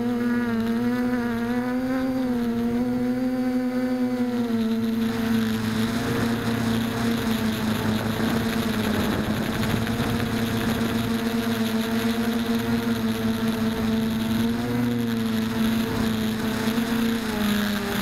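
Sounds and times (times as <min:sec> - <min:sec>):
electric motors and propellers buzzing: 0:00.0 - 0:18.0.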